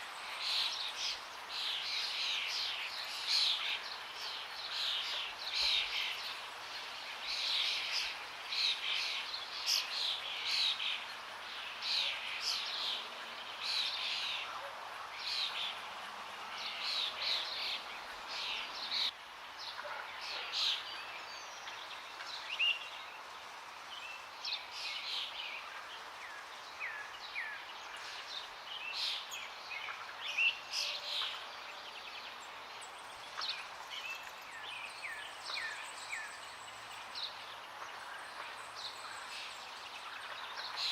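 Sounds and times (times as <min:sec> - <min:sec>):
flowing water: 0:00.0 - 0:40.9
songbirds chirping and trilling: 0:00.0 - 0:40.9.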